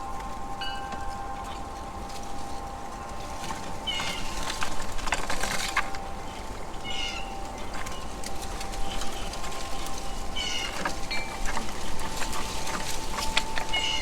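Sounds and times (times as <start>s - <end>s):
faint ringing tone: 0.0s - 14.0s.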